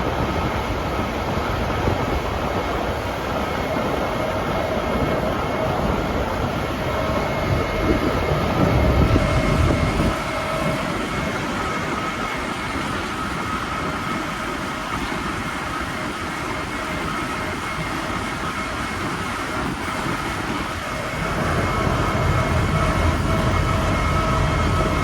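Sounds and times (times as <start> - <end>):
combine harvester engine drone: 0.0 - 25.0.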